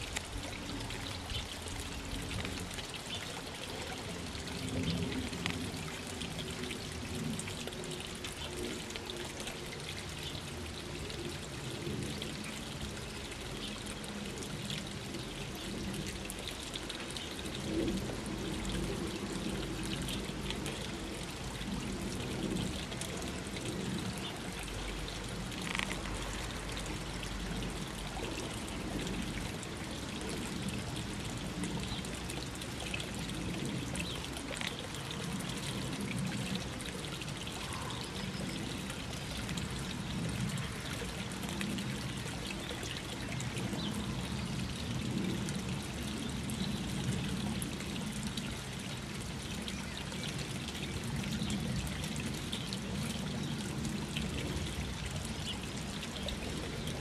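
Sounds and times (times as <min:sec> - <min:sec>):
water trickling over stones: 0:00.0 - 0:57.0.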